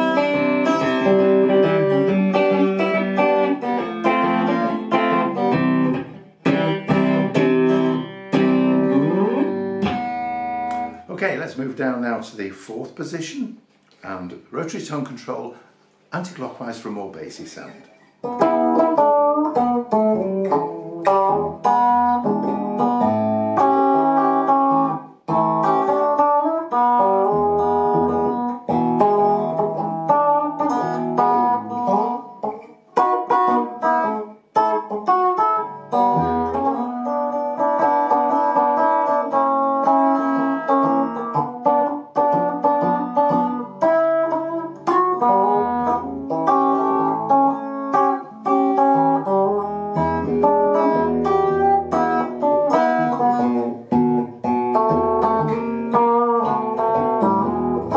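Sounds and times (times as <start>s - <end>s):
bassy electric guitar playing: 0.0s - 11.5s, 18.2s - 57.9s.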